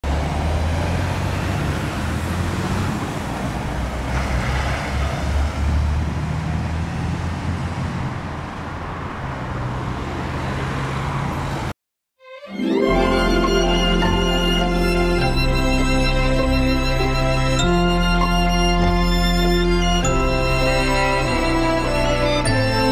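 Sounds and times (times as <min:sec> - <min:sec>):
road traffic rumble: 0:00.0 - 0:11.8, 0:12.5 - 0:22.9.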